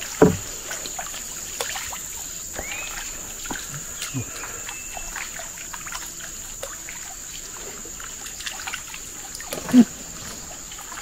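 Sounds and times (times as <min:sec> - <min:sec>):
small ticks and chirps: 0:00.0 - 0:09.6
water trickling and dripping: 0:00.0 - 0:11.0
high-pitched insect drone: 0:00.1 - 0:09.2.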